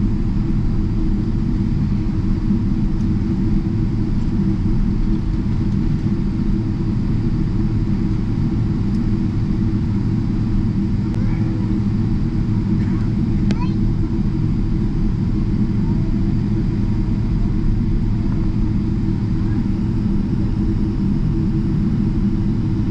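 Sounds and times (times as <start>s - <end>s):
airplane cabin rumble: 0.0s - 22.9s.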